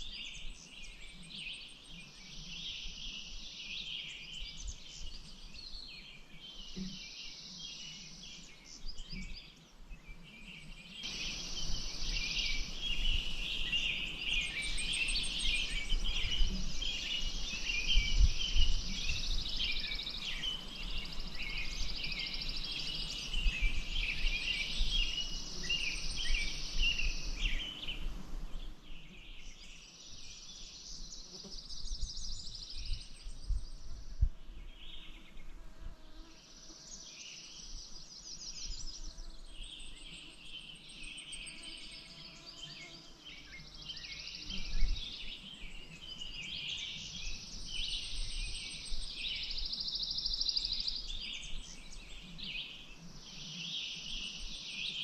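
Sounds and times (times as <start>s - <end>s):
songbirds singing and trilling: 0.0s - 55.0s.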